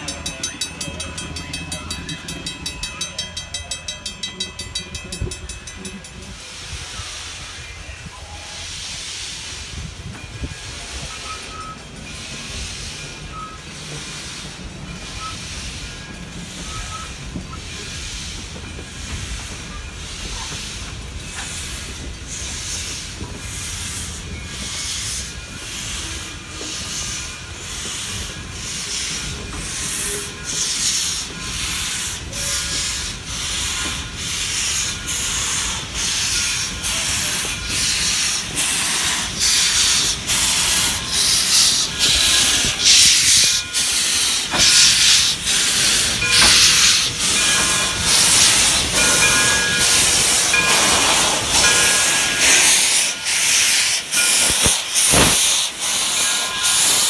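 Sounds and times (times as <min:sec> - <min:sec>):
steam locomotive exhaust chuffs: 0:00.0 - 0:07.6, 0:08.5 - 0:57.0
train rumbling on rails: 0:00.0 - 0:57.0.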